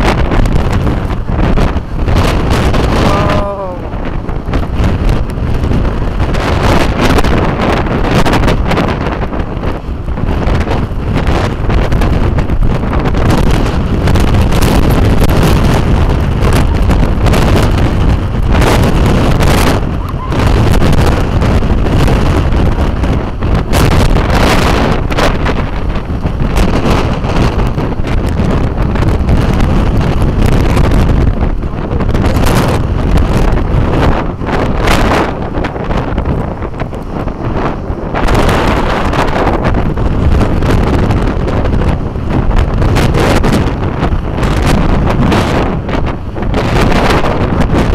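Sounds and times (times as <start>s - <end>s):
wind gusts buffeting microphone: 0.0s - 47.9s.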